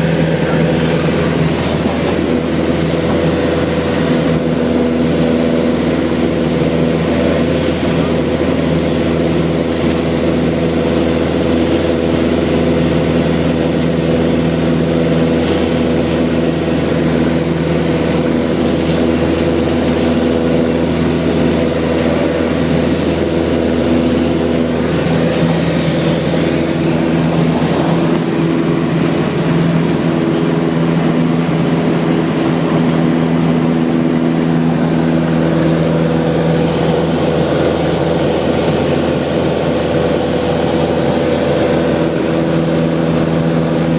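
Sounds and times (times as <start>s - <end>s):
propeller aircraft engine drone: 0.0s - 43.9s.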